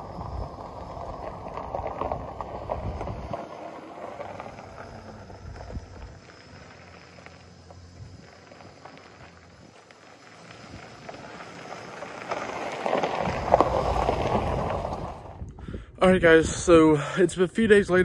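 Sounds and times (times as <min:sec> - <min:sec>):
pickup truck engine: 0:00.0 - 0:15.8
tyres crunching on gravel: 0:00.0 - 0:16.8.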